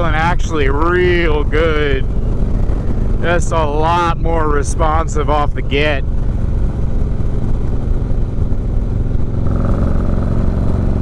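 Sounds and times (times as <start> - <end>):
motorcycle engine exhaust note: 0.0 - 11.0.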